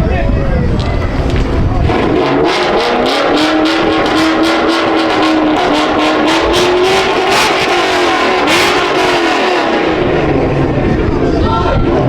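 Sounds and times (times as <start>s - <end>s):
car engines revving: 0.7s - 12.0s.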